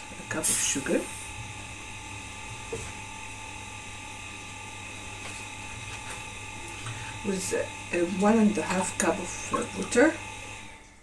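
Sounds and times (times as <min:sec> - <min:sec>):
small motor humming and whining: 0:00.0 - 0:11.0.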